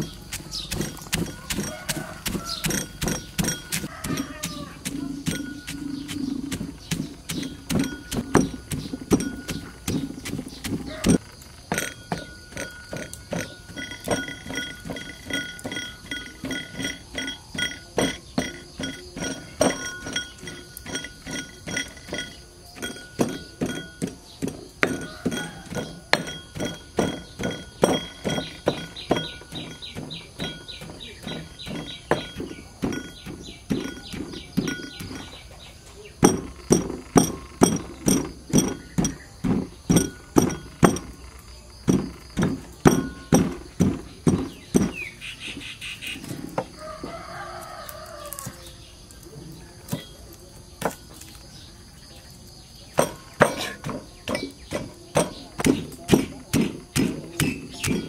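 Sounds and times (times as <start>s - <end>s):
cleaver chopping on wooden block: 0.0s - 35.4s, 36.2s - 41.2s, 41.8s - 45.1s, 52.9s - 58.0s
stone pestle pounding in mortar: 0.0s - 35.5s, 36.2s - 41.2s, 41.8s - 45.2s, 52.9s - 58.0s.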